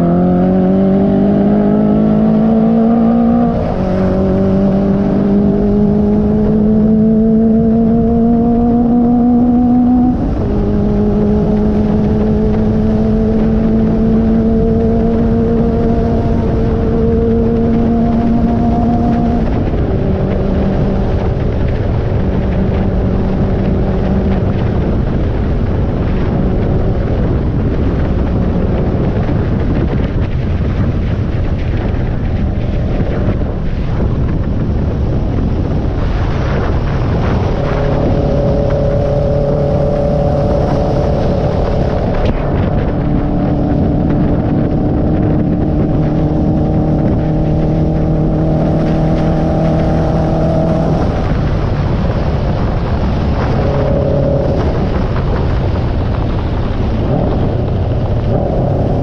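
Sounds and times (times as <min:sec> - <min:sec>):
motorcycle engine cruising: 0:00.0 - 0:59.0
wind rush on microphone: 0:00.0 - 0:59.0.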